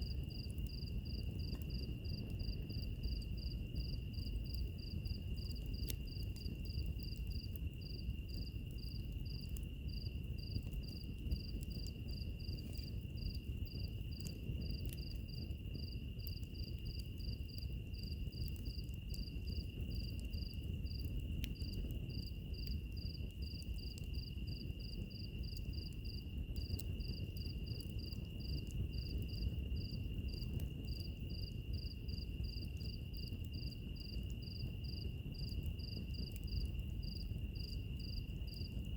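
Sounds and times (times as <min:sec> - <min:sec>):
faint fire crackles: 0:00.0 - 0:38.9
low rush of fire: 0:00.0 - 0:38.9.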